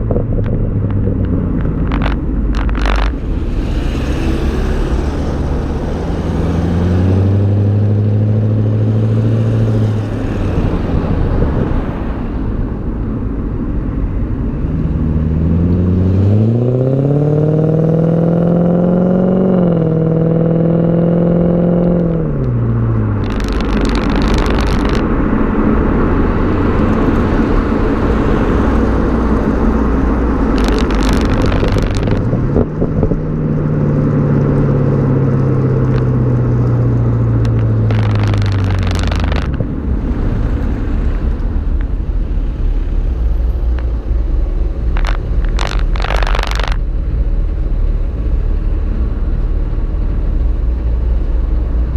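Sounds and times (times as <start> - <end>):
road and wind noise: 0.0 - 51.9.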